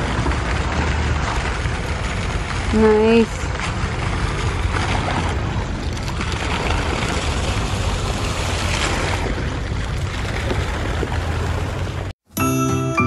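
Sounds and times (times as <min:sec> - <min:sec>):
wind on microphone: 0:00.0 - 0:12.1.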